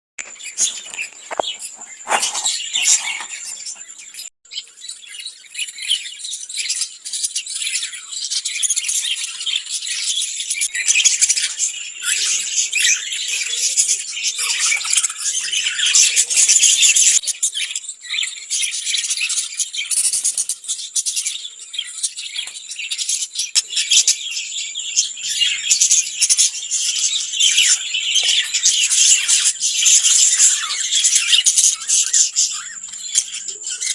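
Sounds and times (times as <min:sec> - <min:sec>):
lovebirds chattering: 0:00.2 - 0:33.9.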